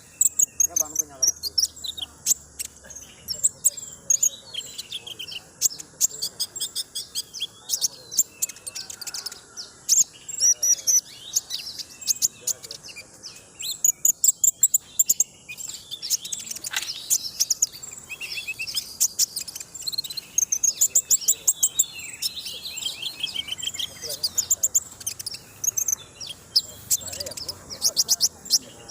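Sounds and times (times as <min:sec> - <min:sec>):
bird twittering song: 0:00.0 - 0:28.9.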